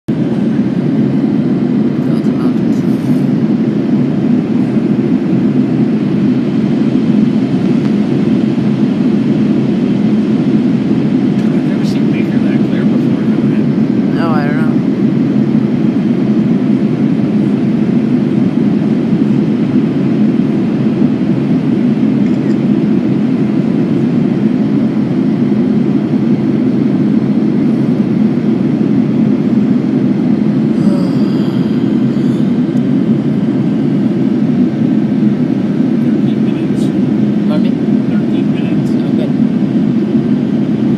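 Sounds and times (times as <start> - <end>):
airliner cabin roar: 0.1 - 40.9.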